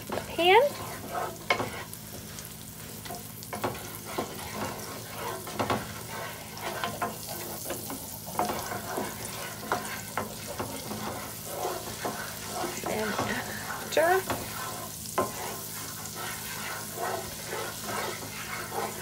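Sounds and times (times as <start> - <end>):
butter sizzling in a frying pan: 0.0 - 19.0
spoon scraping a pan: 0.0 - 19.0.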